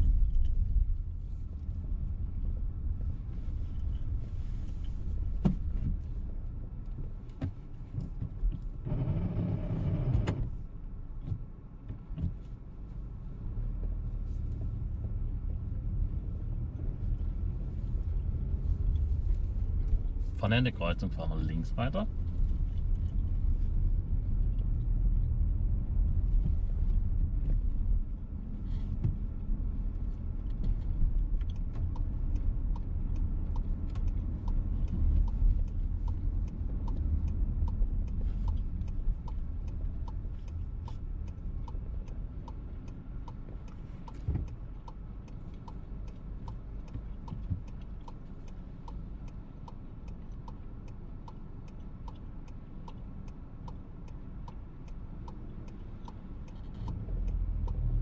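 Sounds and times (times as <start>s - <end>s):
car driving rumble: 0.0s - 58.0s
turn signal ticking: 0.0s - 58.0s.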